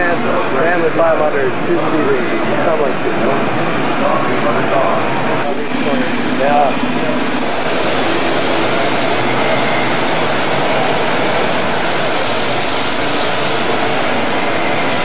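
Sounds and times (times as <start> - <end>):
go-kart engines droning: 2.6 - 15.0.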